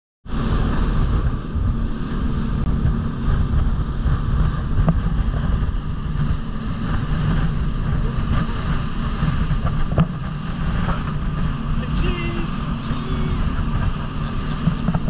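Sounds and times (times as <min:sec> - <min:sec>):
motorboat engine: 0:00.2 - 0:15.0
water rushing: 0:00.3 - 0:15.0
wind buffeting microphone: 0:00.3 - 0:15.0.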